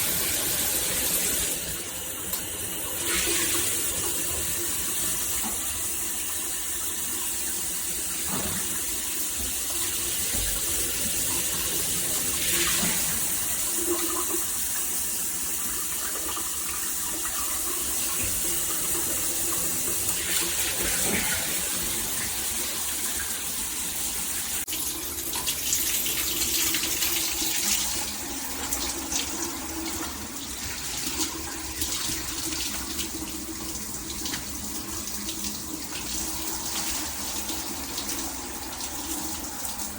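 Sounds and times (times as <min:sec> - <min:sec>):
shower spraying water: 0:00.0 - 0:39.9.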